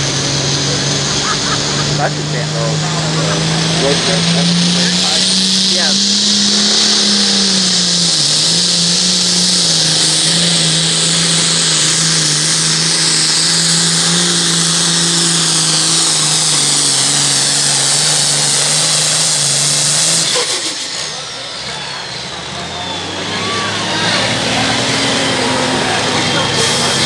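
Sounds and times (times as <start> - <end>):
diesel tractor engine under load: 0.0 - 27.0
turbo whine: 0.0 - 27.0.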